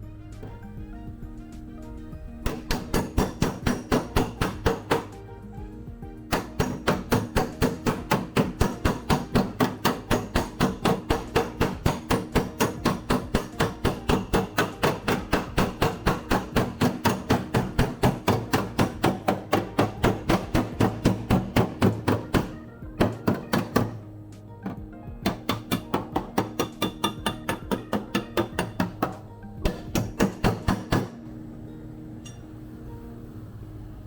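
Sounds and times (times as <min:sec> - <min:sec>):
background music: 0:00.0 - 0:34.0
hammer striking metal panel: 0:02.4 - 0:05.2, 0:06.2 - 0:31.2.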